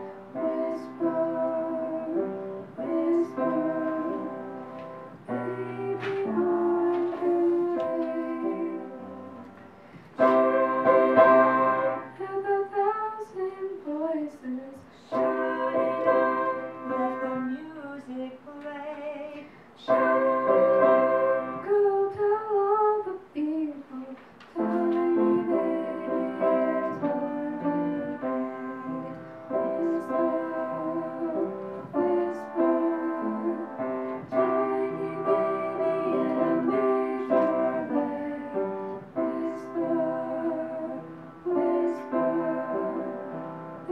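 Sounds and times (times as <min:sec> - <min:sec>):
woman singing: 0:00.0 - 0:09.6, 0:10.2 - 0:43.9
piano accompaniment: 0:00.0 - 0:43.9.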